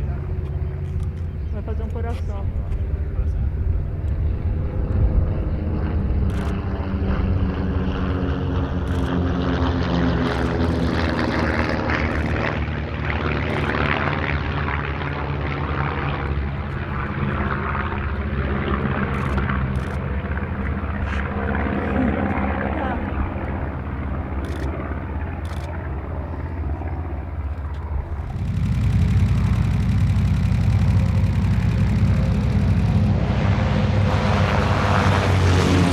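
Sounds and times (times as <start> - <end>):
propeller aircraft droning overhead: 0.0 - 35.9.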